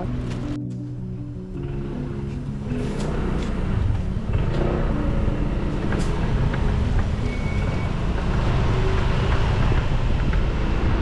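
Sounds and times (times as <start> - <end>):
background music: 0.0 - 11.0
motorbike engine rumble: 0.0 - 11.0.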